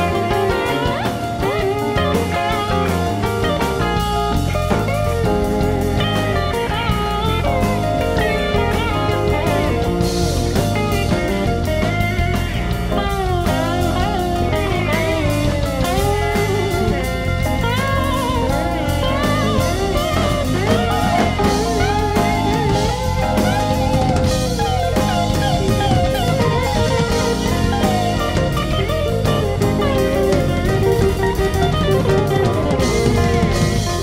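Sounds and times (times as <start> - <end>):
electric guitar lead lines: 0.0 - 34.0
live rock band jamming: 0.0 - 34.0.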